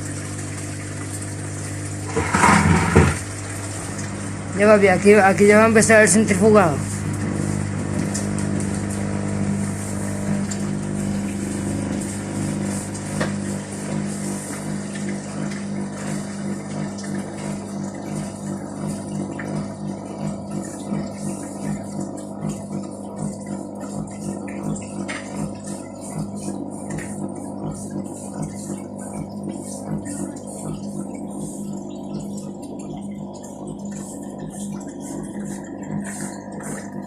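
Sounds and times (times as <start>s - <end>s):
washing machine spinning: 0.0s - 37.0s.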